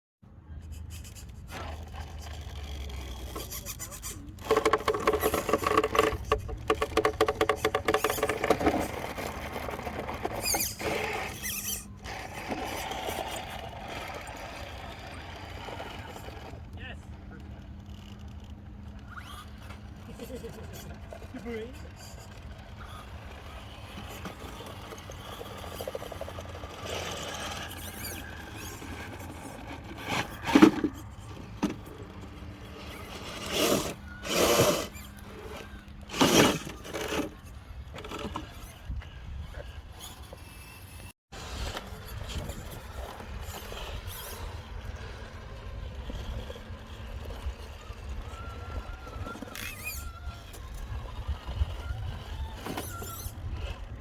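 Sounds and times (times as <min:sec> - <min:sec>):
toy truck motor revving: 0:00.6 - 0:54.0.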